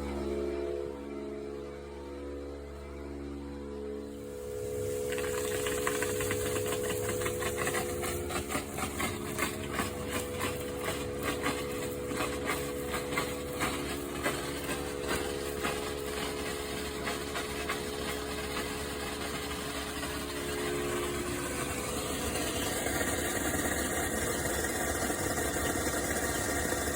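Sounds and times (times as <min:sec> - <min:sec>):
motor running: 0:00.0 - 0:26.9.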